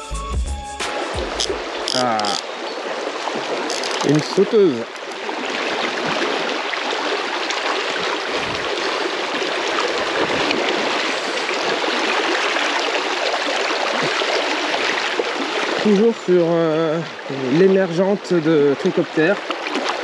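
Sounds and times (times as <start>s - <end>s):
river rushing over stones: 0.9s - 17.7s.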